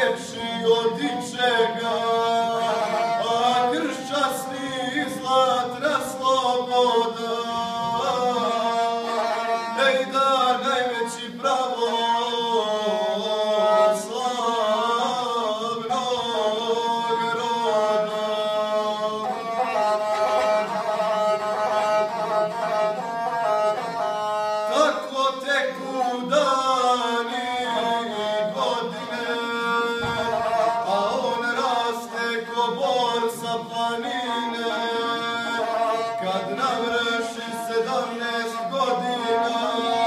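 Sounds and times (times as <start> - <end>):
man singing epic song: 0.0 - 19.6, 24.6 - 40.0
bowed single-string fiddle: 0.0 - 40.0.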